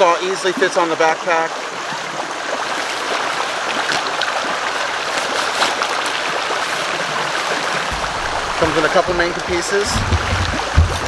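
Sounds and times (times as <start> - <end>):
creek running: 0.0 - 11.0.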